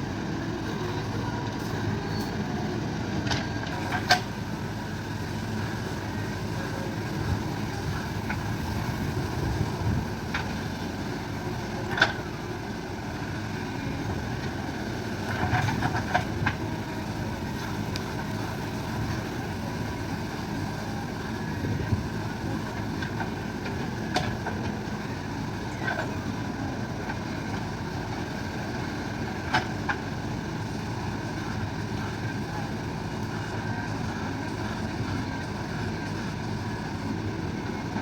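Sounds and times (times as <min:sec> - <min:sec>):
diesel digger engine running: 0:00.0 - 0:38.0.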